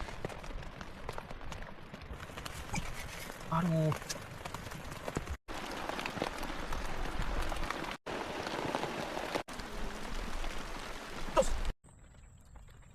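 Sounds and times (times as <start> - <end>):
heavy rain pouring: 0.0 - 11.8
raindrops hitting close by: 0.0 - 12.9.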